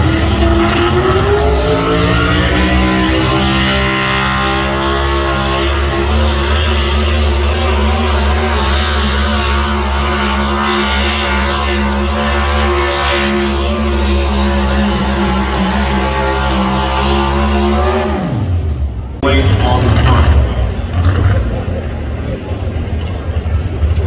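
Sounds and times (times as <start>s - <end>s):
truck engine at high revs: 0.0s - 24.0s.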